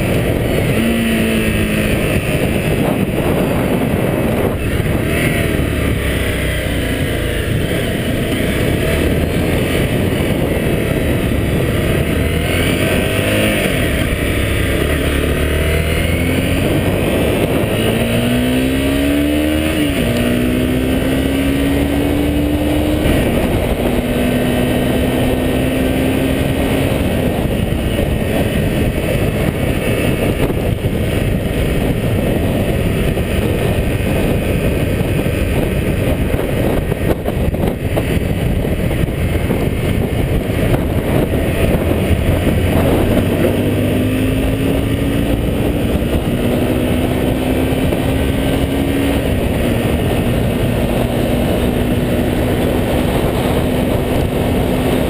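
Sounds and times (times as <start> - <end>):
motorcycle engine: 0.0 - 55.0
wind rushing on microphone: 0.0 - 55.0.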